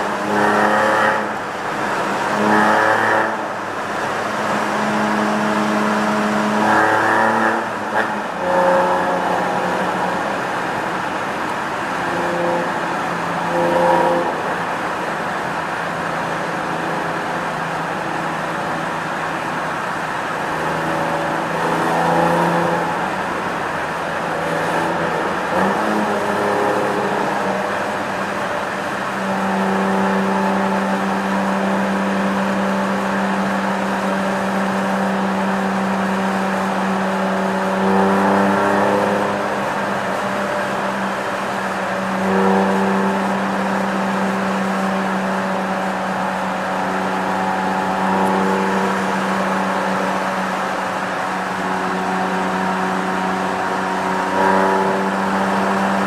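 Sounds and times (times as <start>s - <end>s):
car engine and exhaust in tunnel: 0.0s - 56.0s.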